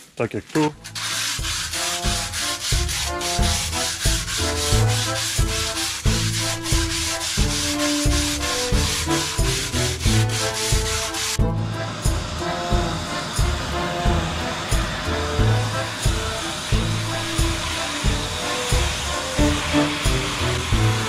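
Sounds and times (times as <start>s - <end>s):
float scrubbing concrete: 0.8s - 21.0s
background music with beat: 0.9s - 21.0s.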